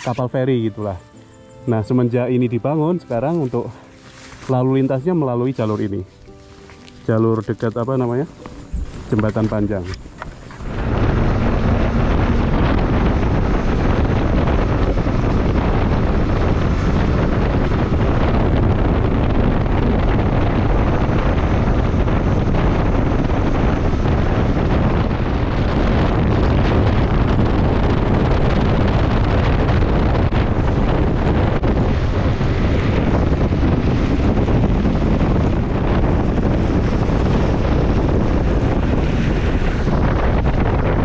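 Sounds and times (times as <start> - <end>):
road and engine noise: 0.0 - 41.0
wind buffeting microphone: 0.0 - 41.0.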